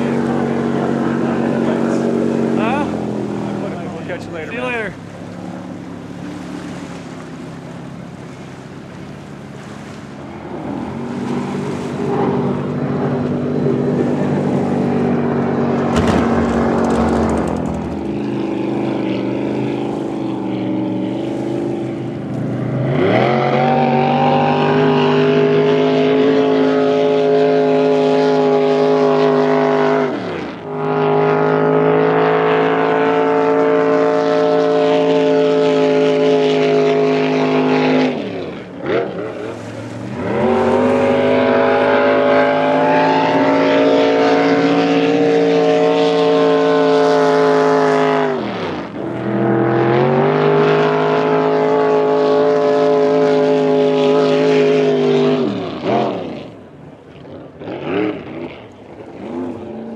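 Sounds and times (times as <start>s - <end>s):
boat engine roaring: 0.0s - 59.9s.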